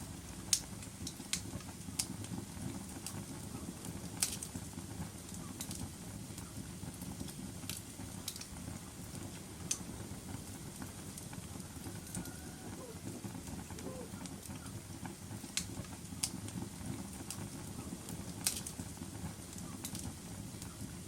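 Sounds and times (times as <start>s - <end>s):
fire crackling and popping: 0.0s - 21.0s
low rumble of burning fire: 0.0s - 21.0s.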